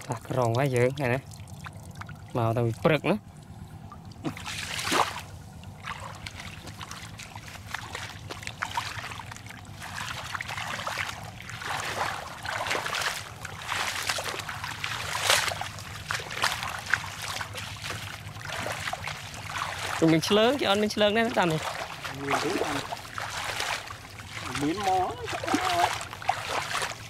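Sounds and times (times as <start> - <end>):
bare feet splashing in water: 0.0 - 3.0, 3.8 - 27.0.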